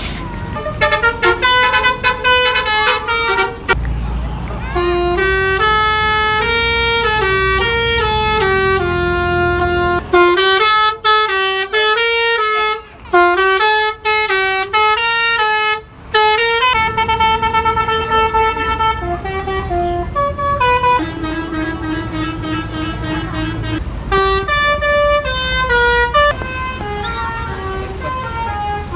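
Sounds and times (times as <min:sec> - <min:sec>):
bus engine rumble: 0:00.0 - 0:28.9
multi-tone musical air horn: 0:00.5 - 0:03.8, 0:04.7 - 0:28.9.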